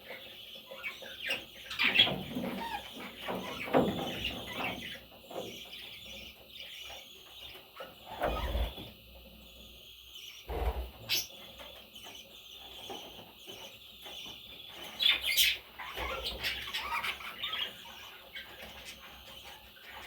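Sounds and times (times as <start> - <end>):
parrots chirping and squawking: 0.0 - 8.9, 9.6 - 20.0.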